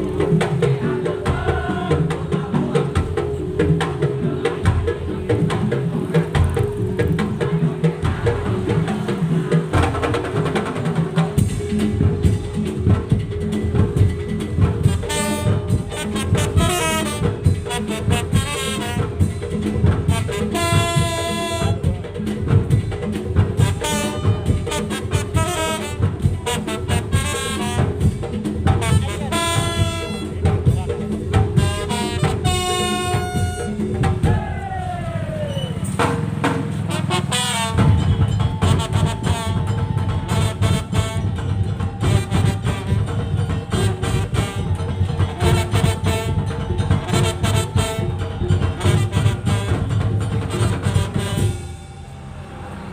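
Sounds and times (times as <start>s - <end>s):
driving drum and percussion: 0.0s - 52.9s.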